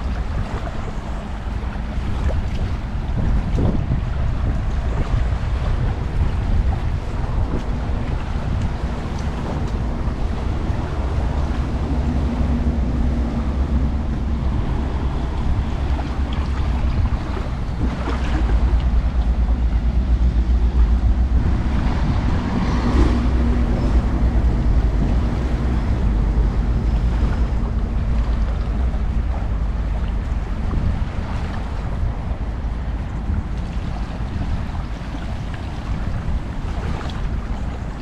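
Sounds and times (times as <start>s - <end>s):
small waves washing ashore: 0.0s - 38.0s
wind buffeting microphone: 0.0s - 38.0s.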